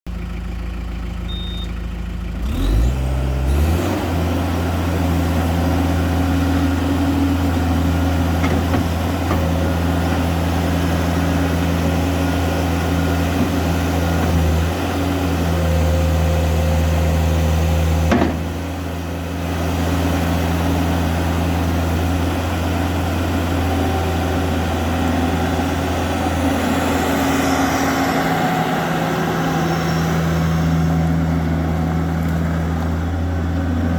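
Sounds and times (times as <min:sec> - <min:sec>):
diesel engine revving: 0:00.1 - 0:33.9.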